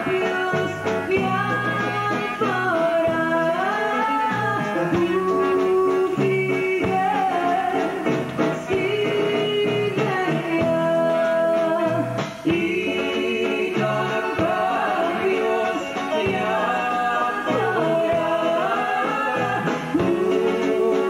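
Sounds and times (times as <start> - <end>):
band accompaniment: 0.0 - 21.0
man and woman singing: 0.0 - 21.0.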